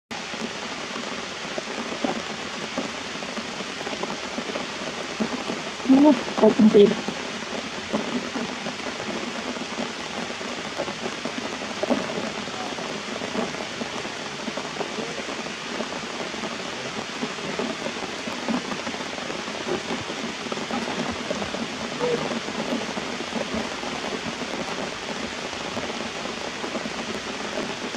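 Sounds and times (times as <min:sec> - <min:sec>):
rain on leaves and rocks: 0:00.1 - 0:27.9.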